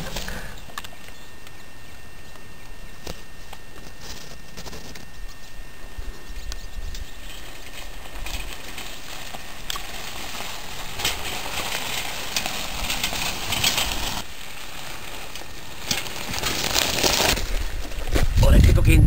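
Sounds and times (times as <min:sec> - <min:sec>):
bicycle tyres crunching over gravel: 0:00.0 - 0:18.8.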